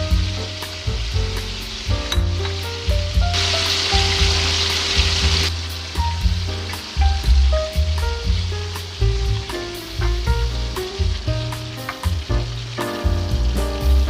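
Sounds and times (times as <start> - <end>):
background music with beat: 0.0 - 14.0
food sizzling in hot oil: 0.0 - 14.0.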